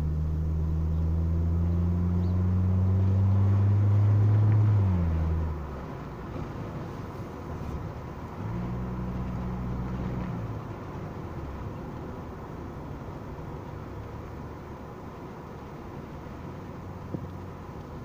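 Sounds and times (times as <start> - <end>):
car engine hum: 0.0 - 18.0
road noise: 0.0 - 18.0.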